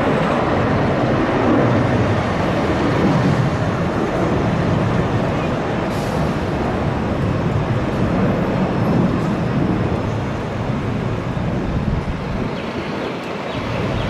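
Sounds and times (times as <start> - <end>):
distant jet engines rumbling: 0.0 - 14.0.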